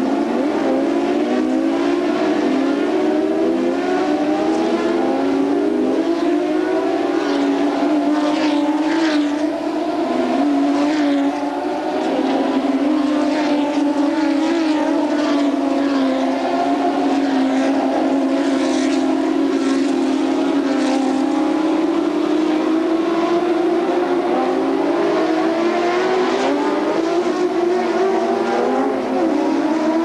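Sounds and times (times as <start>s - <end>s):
racing car engines at high revs: 0.0s - 30.0s.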